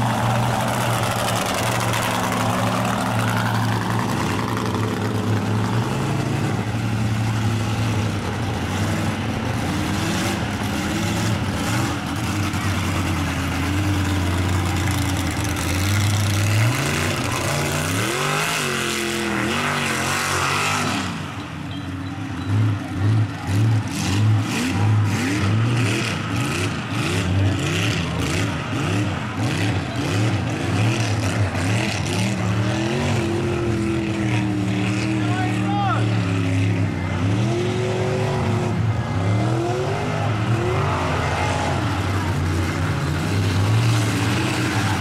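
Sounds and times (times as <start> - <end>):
truck engine revving hard: 0.0 - 21.4, 22.4 - 45.0
tyres churning through mud: 0.0 - 45.0.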